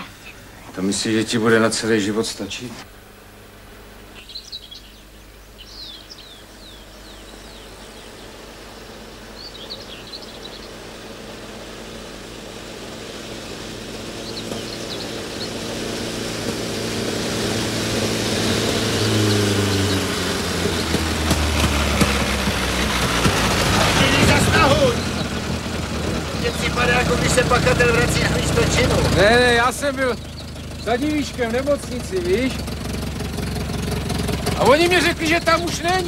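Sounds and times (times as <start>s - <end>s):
birds chirping: 0.0s - 36.0s
truck engine approaching: 0.0s - 36.0s.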